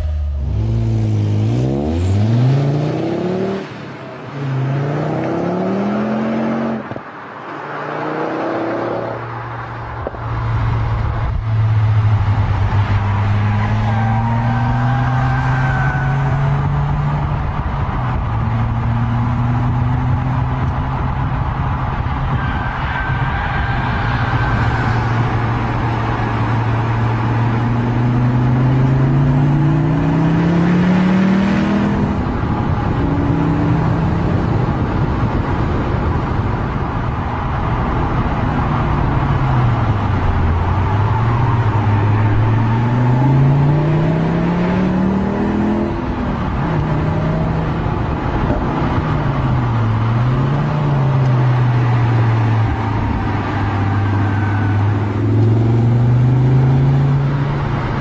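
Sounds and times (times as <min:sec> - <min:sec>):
car engine accelerating: 0:00.0 - 0:58.0
road and tyre noise: 0:00.0 - 0:58.0.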